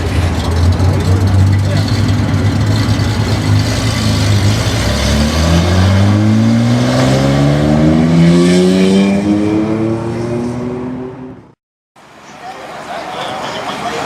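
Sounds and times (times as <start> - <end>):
sports car engine accelerating: 0.2 - 11.6.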